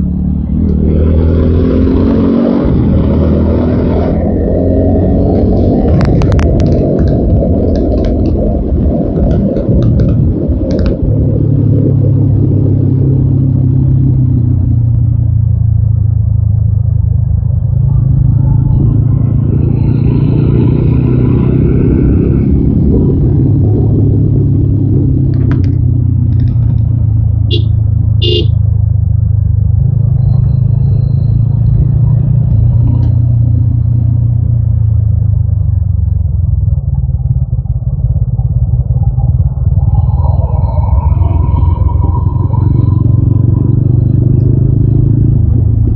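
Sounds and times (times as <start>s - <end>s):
motorcycle engine running: 4.3s - 45.9s.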